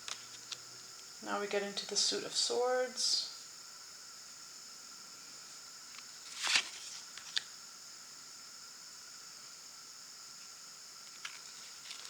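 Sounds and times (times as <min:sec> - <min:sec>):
faint steady high whine: 0:00.0 - 0:12.0.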